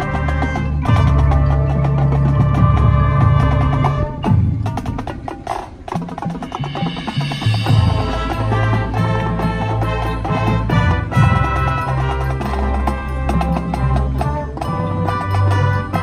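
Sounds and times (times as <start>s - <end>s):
drumline: 0.0s - 16.0s
keyboard percussion: 0.0s - 16.0s
wind and brass chords: 0.0s - 16.0s.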